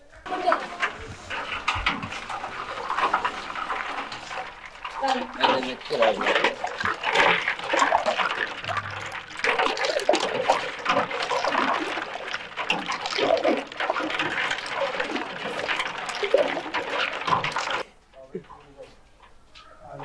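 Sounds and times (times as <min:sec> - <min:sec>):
juice sloshing: 0:00.0 - 0:18.8
spoon scraping metal tub: 0:00.3 - 0:17.8.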